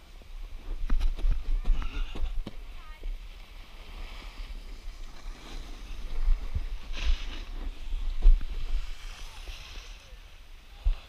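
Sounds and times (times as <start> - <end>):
snowboard scraping across snow: 0.0 - 11.0
wind buffeting microphone: 0.3 - 11.0.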